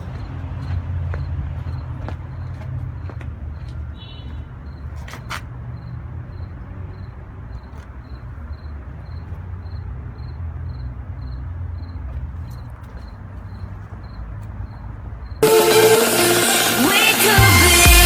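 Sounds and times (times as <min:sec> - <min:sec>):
cricket chirping: 0:00.0 - 0:15.4.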